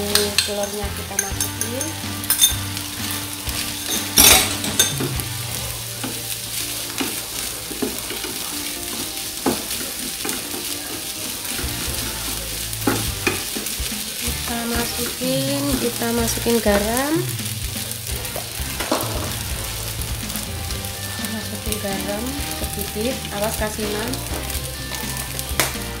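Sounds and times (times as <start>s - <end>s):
rice and egg sizzling in pan: 0.0s - 26.0s.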